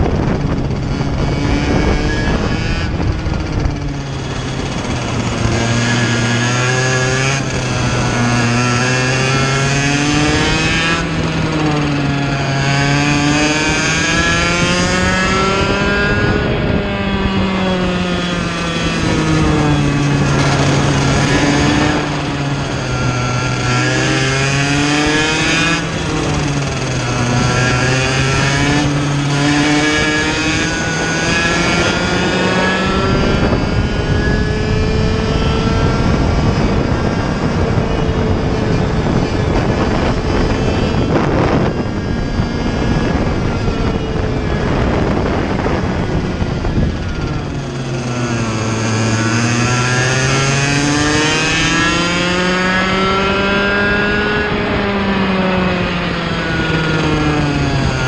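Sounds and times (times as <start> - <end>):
kart engine revving: 0.0 - 58.0
wind rushing on microphone: 0.0 - 58.0.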